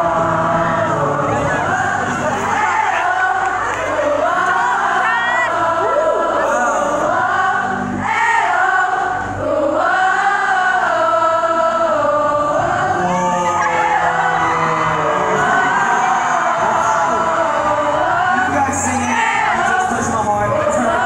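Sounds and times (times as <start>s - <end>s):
crowd singing in unison: 0.0s - 21.0s.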